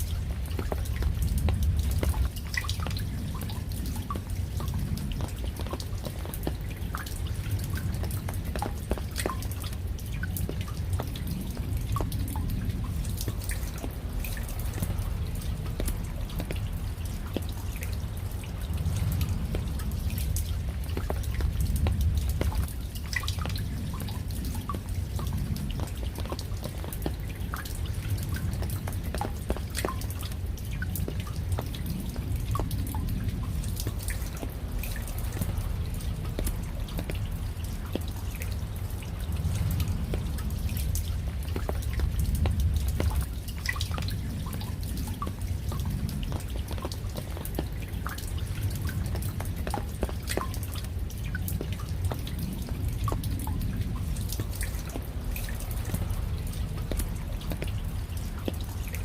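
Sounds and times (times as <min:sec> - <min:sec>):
low rumble of rain: 0:00.0 - 0:59.0
raindrops dripping and pattering: 0:00.0 - 0:59.0.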